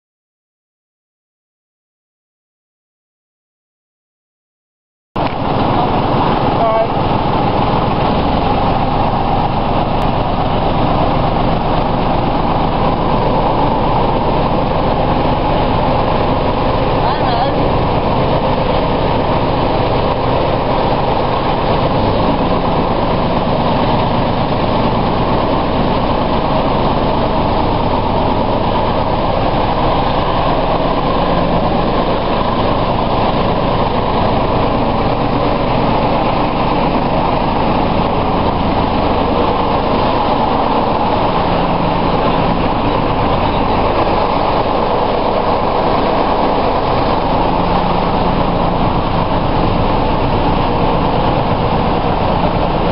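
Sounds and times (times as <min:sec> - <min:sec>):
diesel engine running: 0:05.2 - 0:52.9
train wheels on track: 0:05.2 - 0:52.9.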